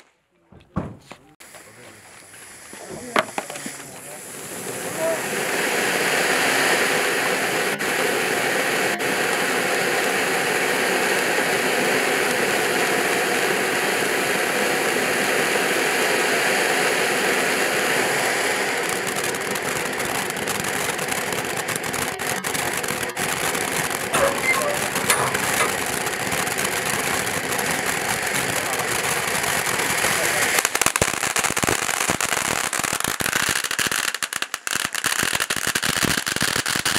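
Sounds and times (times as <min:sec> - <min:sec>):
firework pops: 0:00.0 - 0:14.4, 0:18.0 - 0:36.9
firework crackling: 0:01.0 - 0:36.9
firework fountain hissing: 0:01.0 - 0:36.9.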